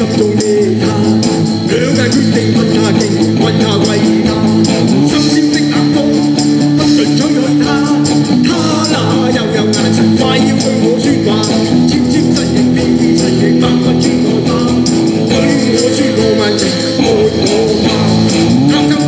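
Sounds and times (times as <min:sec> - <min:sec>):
live pop-rock band playing: 0:00.0 - 0:19.0.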